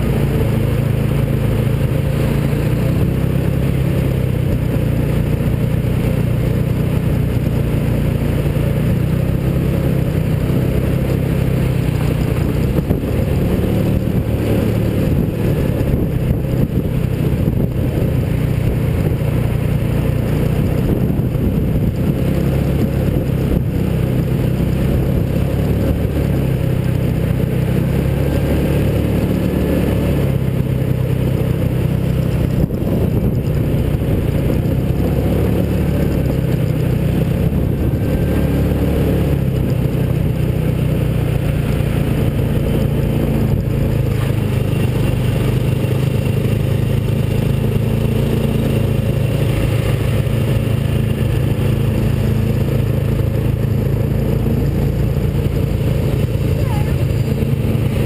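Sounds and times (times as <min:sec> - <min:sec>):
road and wind noise: 0:00.0 - 0:58.0
small engine running: 0:00.0 - 0:58.0.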